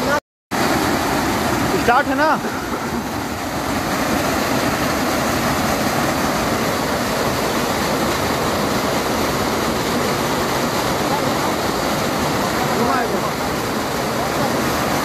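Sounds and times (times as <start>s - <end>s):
waterfall pouring over rock: 0.6s - 15.0s.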